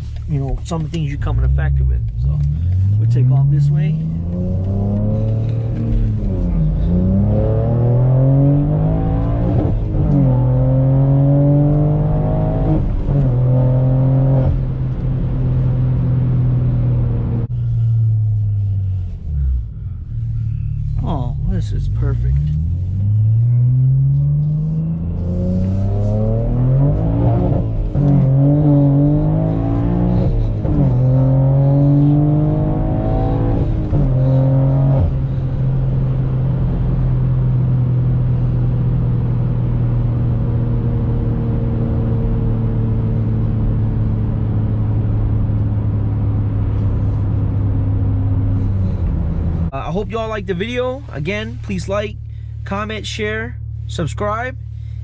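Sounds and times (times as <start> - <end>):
car engine revving through gears: 0.7 - 19.7, 21.6 - 51.9.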